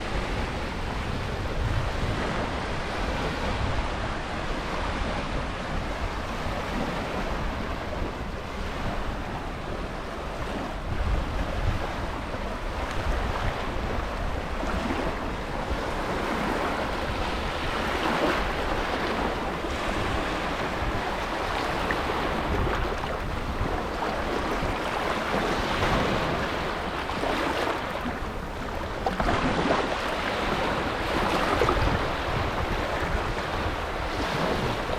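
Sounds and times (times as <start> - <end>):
waves washing onto beach: 0.0 - 34.9
wind on microphone: 0.0 - 34.9.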